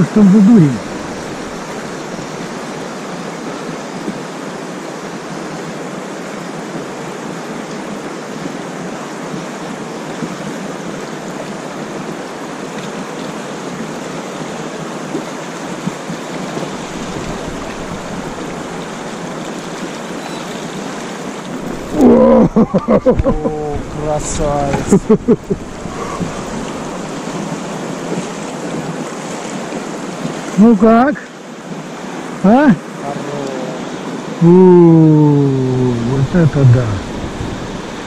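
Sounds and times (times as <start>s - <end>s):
rushing river water: 0.0s - 38.0s
wind: 0.0s - 38.0s.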